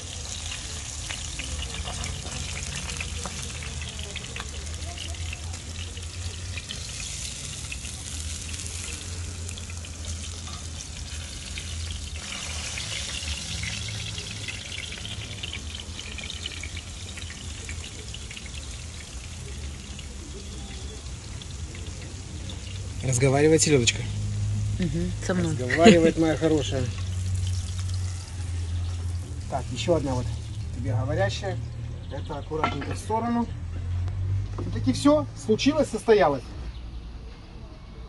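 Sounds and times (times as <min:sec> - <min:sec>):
fried fish sizzling and crackling: 0:00.0 - 0:36.2.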